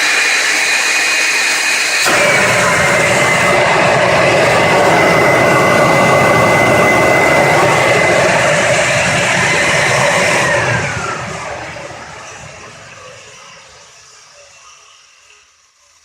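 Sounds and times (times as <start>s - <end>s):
vacuum motor whining: 0.0s - 14.3s.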